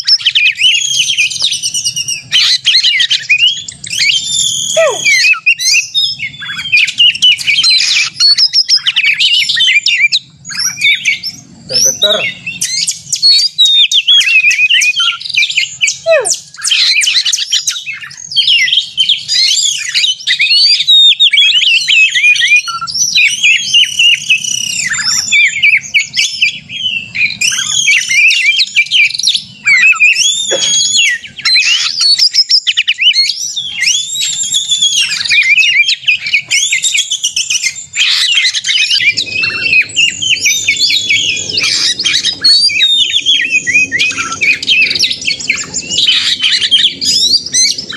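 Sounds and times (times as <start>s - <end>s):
bird singing whistles and chatter: 0.0s - 47.9s.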